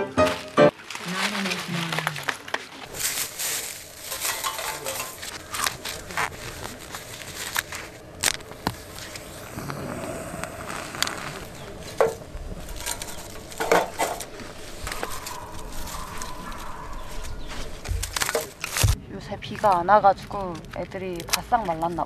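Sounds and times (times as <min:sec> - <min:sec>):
dry leaves crunching and rustling: 0:00.2 - 0:19.0
small fire crackling: 0:00.7 - 0:21.9.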